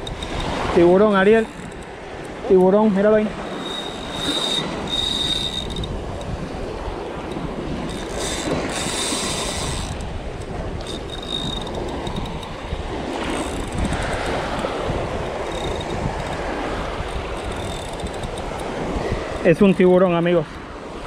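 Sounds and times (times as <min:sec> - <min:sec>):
fishing reel spinning: 0:00.0 - 0:20.7
wind noise on microphone: 0:00.0 - 0:21.0.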